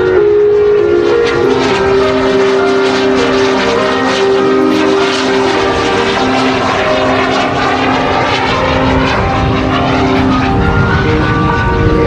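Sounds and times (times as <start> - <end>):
small jet engine in flight: 0.0 - 12.0.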